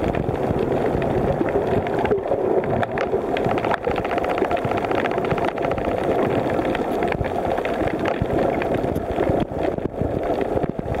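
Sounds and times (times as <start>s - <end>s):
boat motor drone underwater: 0.0s - 11.0s.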